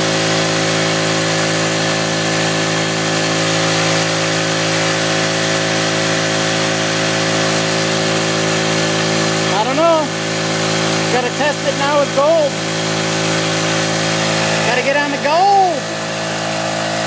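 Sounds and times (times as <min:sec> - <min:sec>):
pump motor humming: 0:00.0 - 0:17.0.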